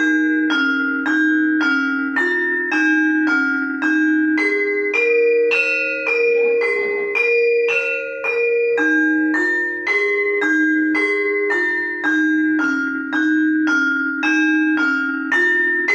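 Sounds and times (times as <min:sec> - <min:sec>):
metallophone notes ringing: 0:00.0 - 0:15.9.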